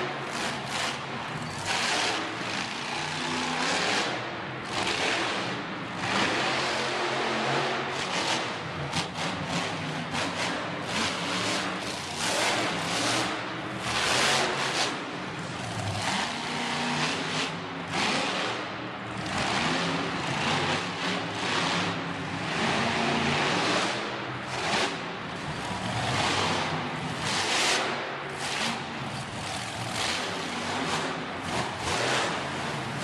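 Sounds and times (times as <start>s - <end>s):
truck engine revving: 0.3s - 33.0s.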